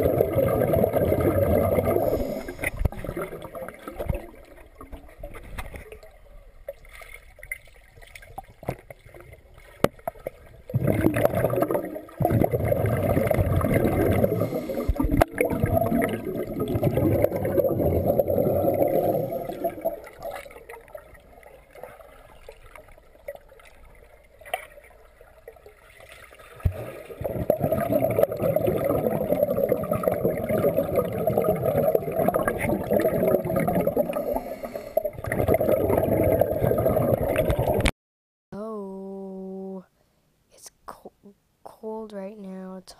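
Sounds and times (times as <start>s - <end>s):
muffled underwater rushing and bubbling: 0.0s - 37.9s.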